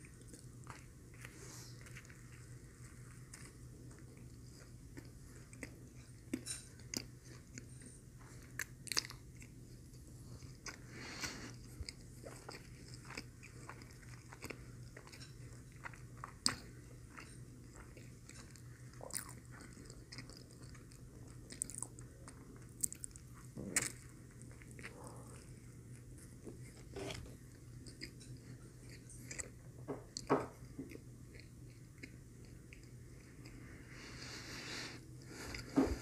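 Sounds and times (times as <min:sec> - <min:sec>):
person chewing wetly: 0:00.0 - 0:33.7.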